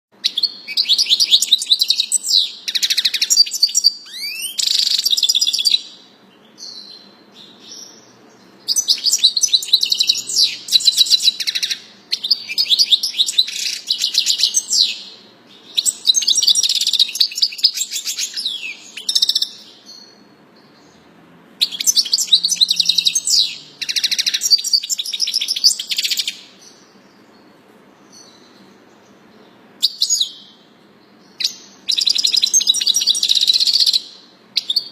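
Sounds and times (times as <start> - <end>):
songbird trilling and whistling: 0.2 - 21.0, 21.6 - 29.1, 29.8 - 34.9.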